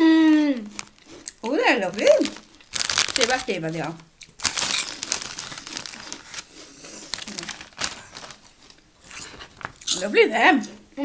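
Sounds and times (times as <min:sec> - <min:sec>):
plastic crisp packet crinkling: 0:00.6 - 0:10.1.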